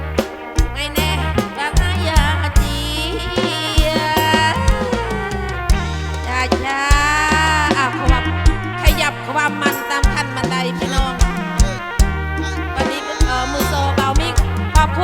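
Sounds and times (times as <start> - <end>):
folk music through loudspeakers: 0.0 - 15.0.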